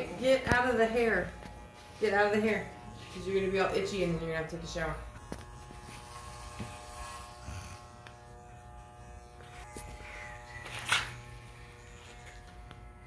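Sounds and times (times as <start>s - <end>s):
electric hair clippers buzzing: 0.0s - 13.0s.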